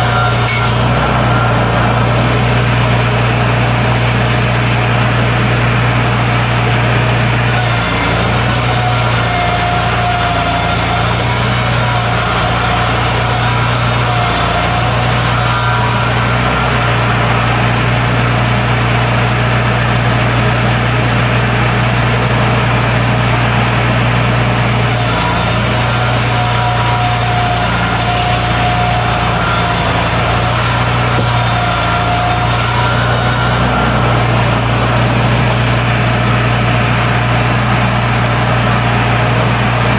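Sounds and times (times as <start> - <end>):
saw whine cutting boards: 0.0 - 39.9
sawmill engines droning: 0.0 - 39.9.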